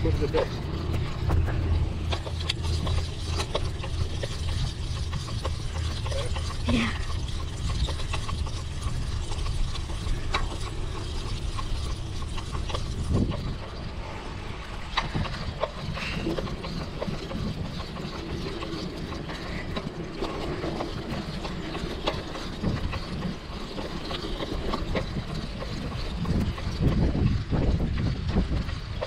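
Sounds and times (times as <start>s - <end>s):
bike clicks and rattles: 0.0s - 29.0s.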